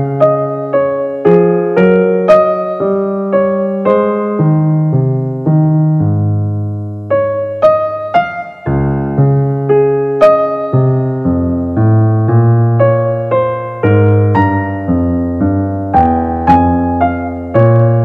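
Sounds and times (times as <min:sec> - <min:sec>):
keyboard melody over bass notes: 0:00.0 - 0:18.0.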